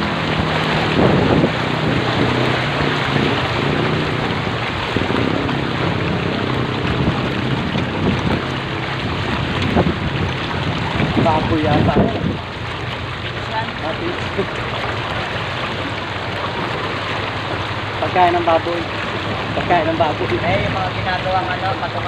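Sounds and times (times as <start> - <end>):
engine low hum: 0.0 - 22.0
floodwater splashing: 0.0 - 22.0.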